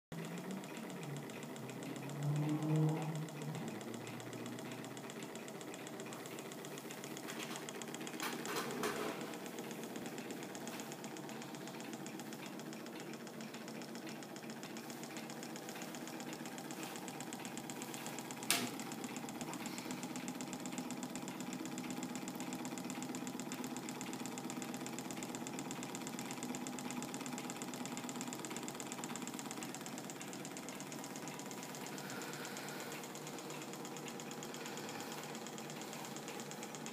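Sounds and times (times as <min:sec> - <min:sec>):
model engine clattering: 0:00.2 - 0:36.9.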